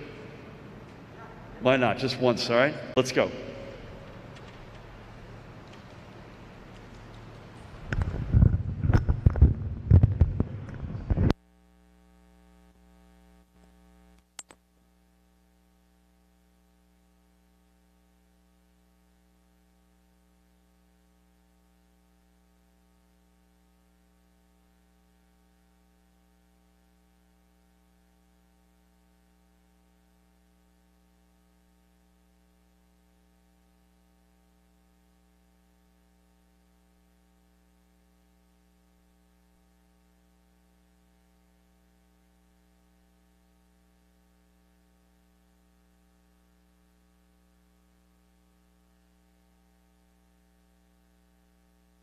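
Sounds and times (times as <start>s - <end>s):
faint electrical hum: 0.0s - 52.0s.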